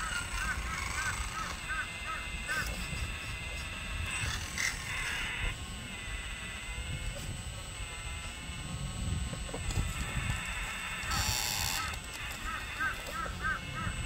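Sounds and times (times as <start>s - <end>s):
electric motors and gears whining: 0.0s - 14.0s.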